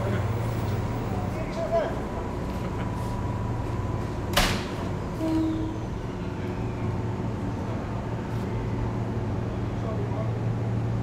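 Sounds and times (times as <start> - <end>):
electric train humming: 0.0 - 11.0.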